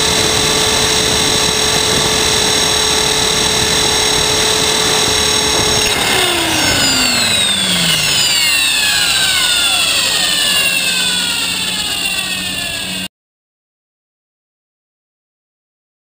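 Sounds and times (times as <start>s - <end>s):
helicopter rotor motor spooling down: 0.0s - 13.1s.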